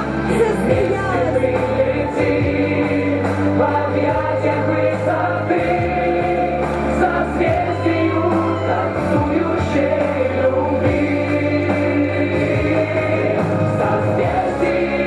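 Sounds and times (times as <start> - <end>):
instrumental backing with beat: 0.0 - 15.0
person singing: 0.0 - 15.0.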